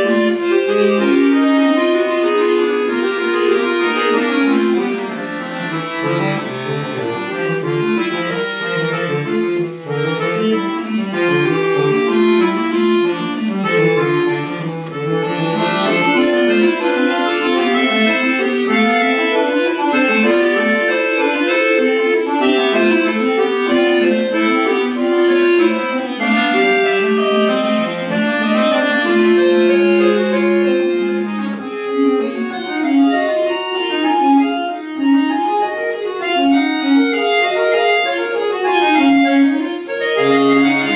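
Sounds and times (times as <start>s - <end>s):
button accordion playing: 0.0s - 40.9s.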